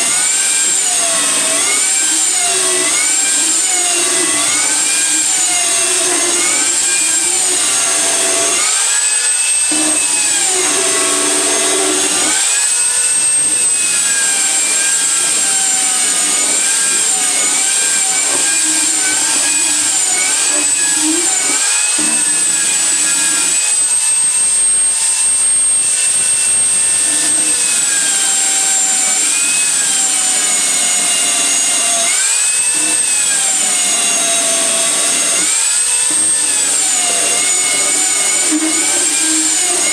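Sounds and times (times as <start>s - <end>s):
power sander whining: 0.0s - 39.9s.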